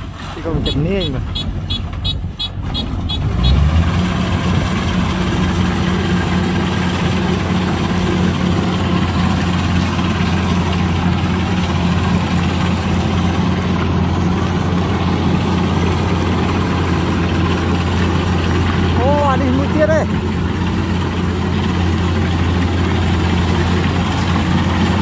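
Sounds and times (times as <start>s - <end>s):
combine harvester diesel engine drone: 0.0s - 25.0s.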